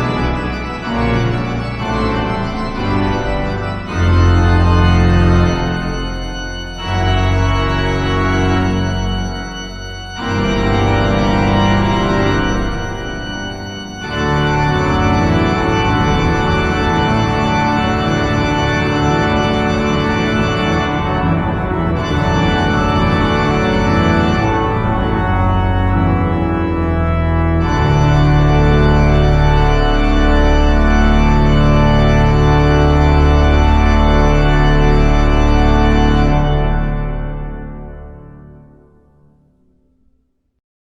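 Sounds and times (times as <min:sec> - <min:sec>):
organ chords: 0:00.0 - 0:39.4.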